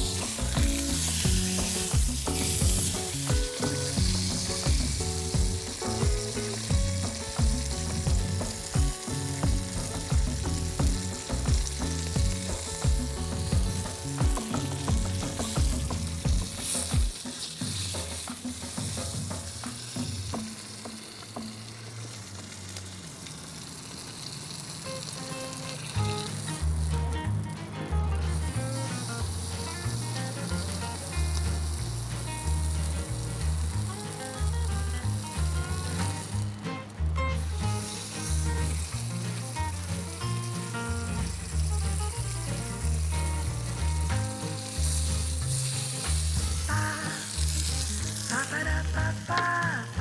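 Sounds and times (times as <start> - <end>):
steak sizzling: 0.0 - 50.0.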